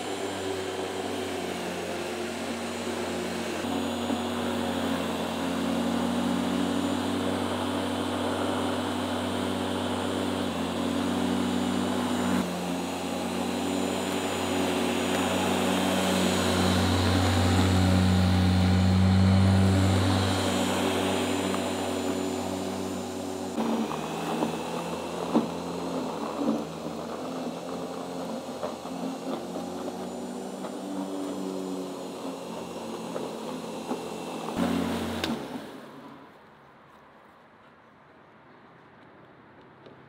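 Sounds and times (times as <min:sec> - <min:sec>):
electric lawn mower cutting grass: 0:00.0 - 0:36.3.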